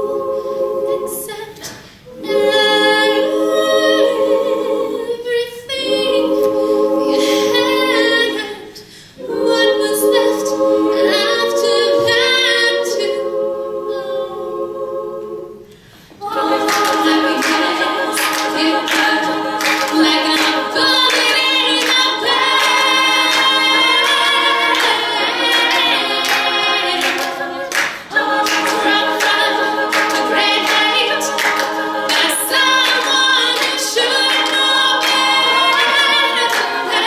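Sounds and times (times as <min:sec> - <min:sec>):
female a cappella group singing: 0:00.0 - 0:37.0.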